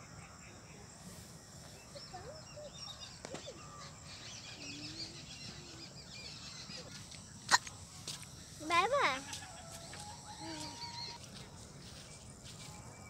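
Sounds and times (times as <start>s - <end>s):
faint outdoor background: 0.0s - 13.0s
small birds chirping: 0.0s - 13.0s.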